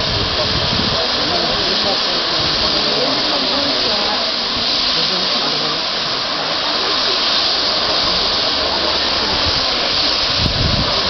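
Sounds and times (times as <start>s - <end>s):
loud steady hiss: 0.0s - 11.0s.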